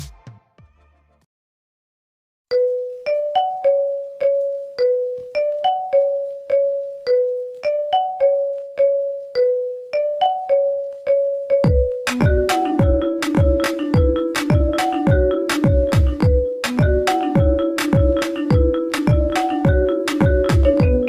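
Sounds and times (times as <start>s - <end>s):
chiming phone ringtone: 2.5s - 21.0s.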